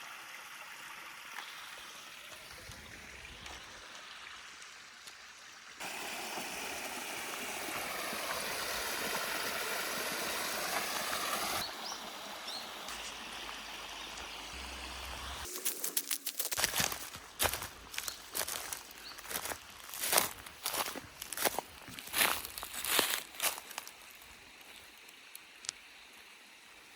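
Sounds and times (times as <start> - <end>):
brook flowing: 0.0 - 26.9.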